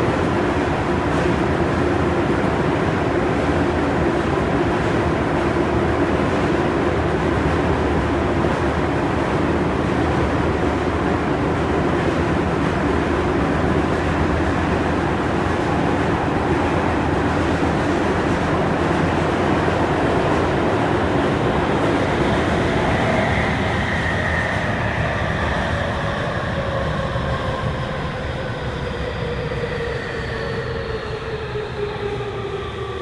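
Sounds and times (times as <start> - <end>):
train hum: 0.0 - 33.0
wheels rumbling on rail: 0.0 - 33.0.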